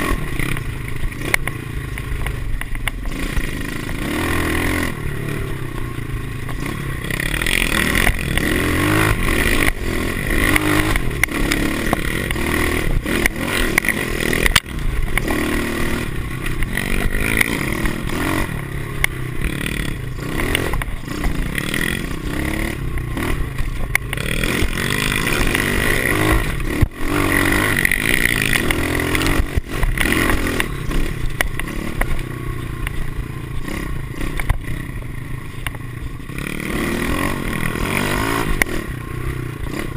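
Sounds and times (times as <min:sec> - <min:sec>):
rattling and clatter over bumps: 0:00.0 - 0:39.9
small motorbike engine revving: 0:00.0 - 0:39.9.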